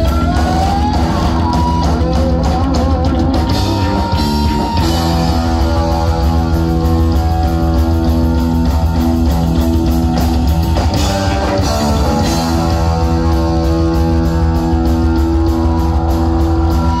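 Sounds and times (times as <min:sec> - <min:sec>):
distorted electric guitar chords: 0:00.0 - 0:17.0
drums with cymbal beat: 0:00.0 - 0:17.0.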